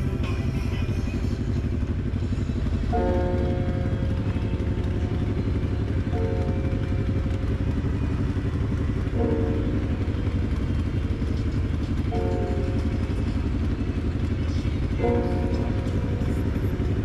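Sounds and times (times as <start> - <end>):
faint background music chords: 0.0 - 17.0
motorcycle engine running: 0.0 - 17.0.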